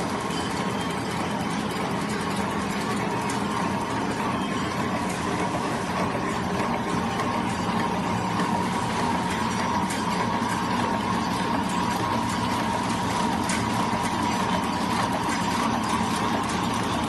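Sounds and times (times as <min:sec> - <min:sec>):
wrapping machine whirring: 0:00.0 - 0:17.0.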